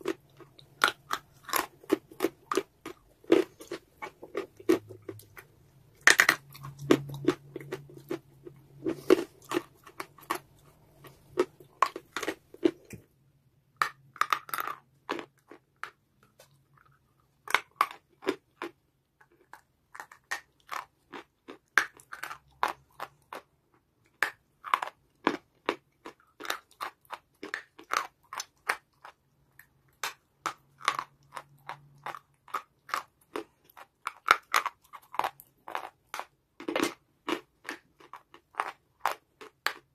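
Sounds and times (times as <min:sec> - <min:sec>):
chewing crunchy clay: 0:00.0 - 0:13.0, 0:13.9 - 0:23.5, 0:24.1 - 0:39.9.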